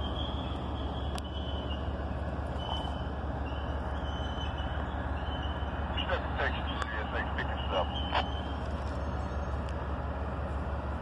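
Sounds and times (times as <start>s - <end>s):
distant locomotive rumble: 0.0s - 11.0s.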